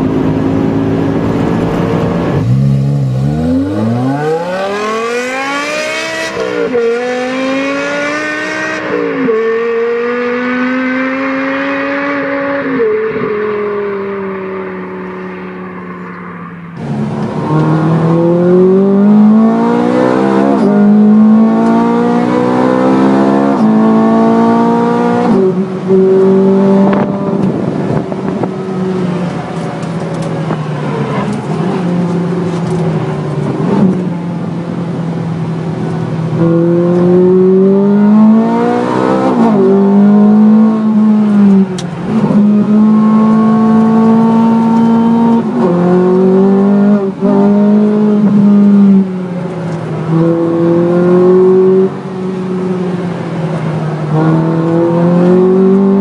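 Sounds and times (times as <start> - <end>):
car engine accelerating and shifting: 0.0 - 56.0.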